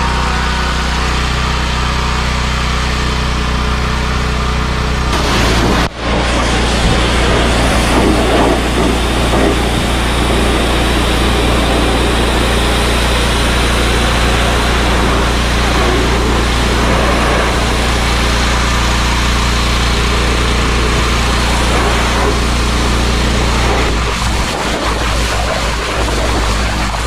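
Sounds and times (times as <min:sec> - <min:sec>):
pressure washer engine humming: 0:00.0 - 0:27.0
water jet hissing: 0:05.2 - 0:27.0.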